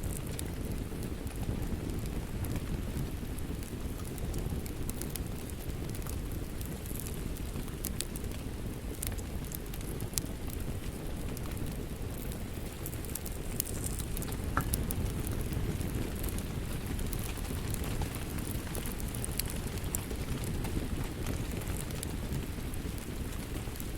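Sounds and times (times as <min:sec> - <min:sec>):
low rumble of flames: 0:00.0 - 0:23.9
wood fire crackling: 0:00.0 - 0:23.9
sharp pops and snaps: 0:03.2 - 0:23.9.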